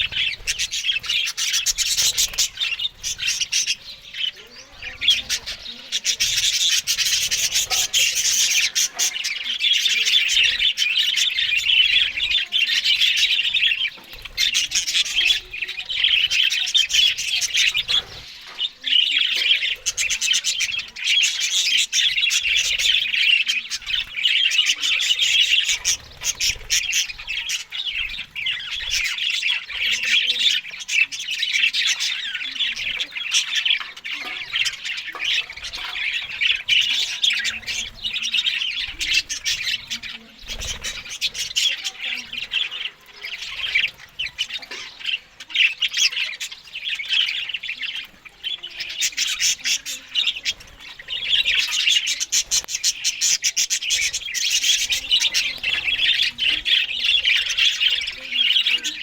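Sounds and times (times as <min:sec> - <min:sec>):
budgerigars chattering and warbling: 0:00.0 - 0:59.0.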